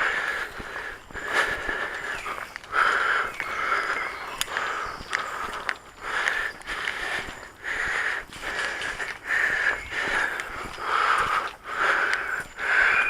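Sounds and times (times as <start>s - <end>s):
person breathing hard: 0.0s - 13.0s.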